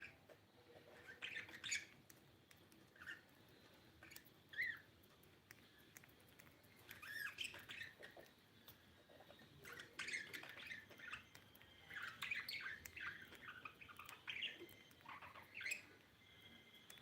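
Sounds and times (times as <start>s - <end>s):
budgerigars chirping and squawking: 0.0s - 2.0s, 2.9s - 5.3s, 6.7s - 8.4s, 9.1s - 17.0s.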